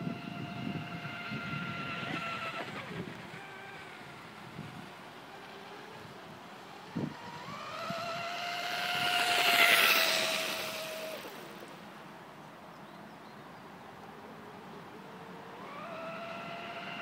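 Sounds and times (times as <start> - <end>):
electric motor whine: 0.0 - 12.1, 14.0 - 17.0.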